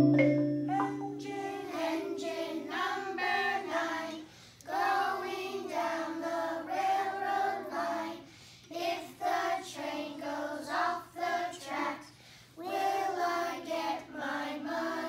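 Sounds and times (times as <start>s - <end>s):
children singing in unison: 0.7s - 12.0s, 12.6s - 15.0s.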